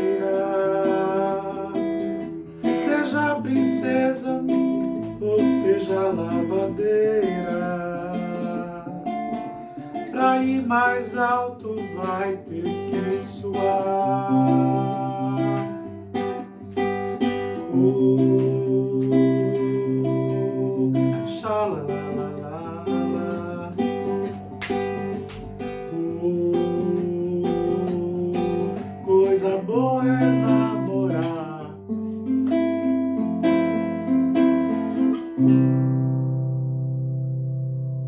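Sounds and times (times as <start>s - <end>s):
acoustic guitar picked and strummed: 0.0s - 38.0s.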